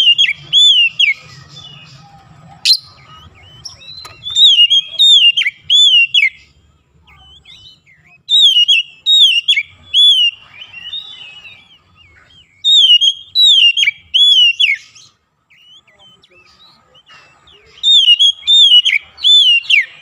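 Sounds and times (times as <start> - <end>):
bird singing whistled notes: 0.0 - 20.0.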